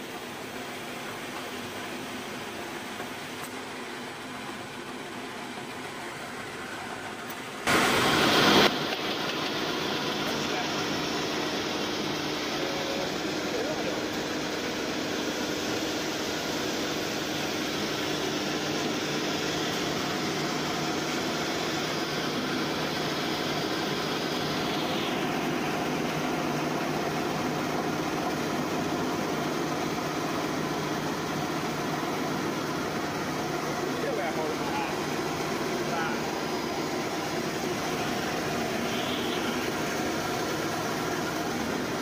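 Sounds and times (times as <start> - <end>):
roller compactor humming: 0.0 - 42.0.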